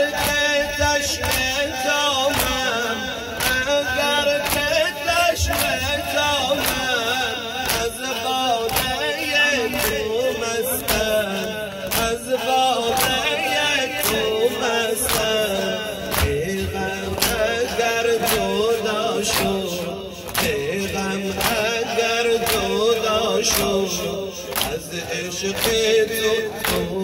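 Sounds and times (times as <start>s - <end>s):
man chanting through loudspeakers: 0.0s - 27.0s.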